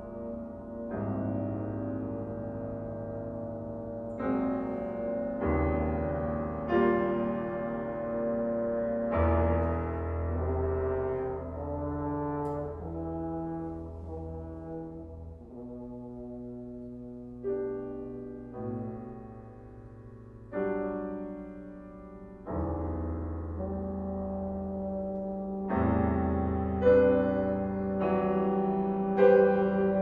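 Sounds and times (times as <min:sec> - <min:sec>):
french horn playing slow held notes: 0:00.0 - 0:19.4, 0:22.5 - 0:30.0
piano chords: 0:00.0 - 0:30.0.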